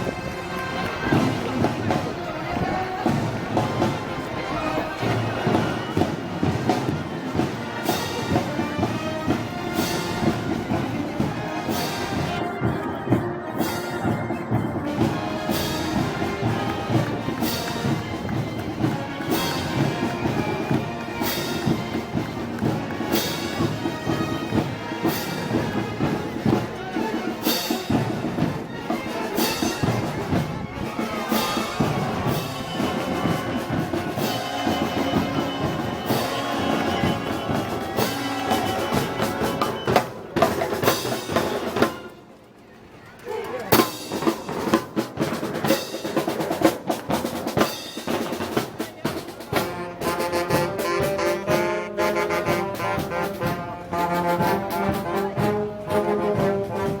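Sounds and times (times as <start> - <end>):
brass band playing: 0.0 - 42.4, 43.7 - 57.0
drums: 0.0 - 57.0.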